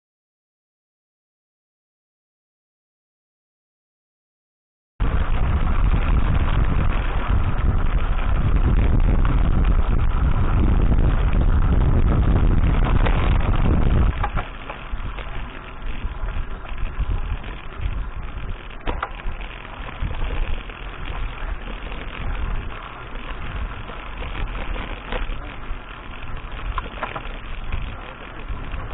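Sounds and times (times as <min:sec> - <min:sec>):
fluttering rumble of bike ride: 0:05.0 - 0:28.9
wind buffeting microphone: 0:05.0 - 0:28.9.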